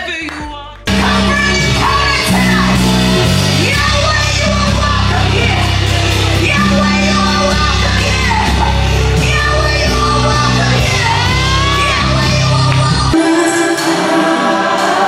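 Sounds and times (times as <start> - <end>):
singers over gospel band: 0.9 - 15.0.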